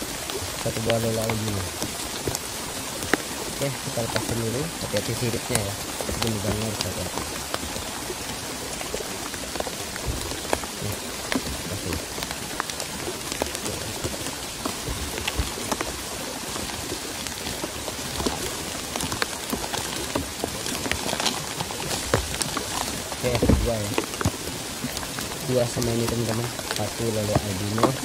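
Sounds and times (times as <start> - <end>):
rain falling on leaves: 0.0 - 28.0.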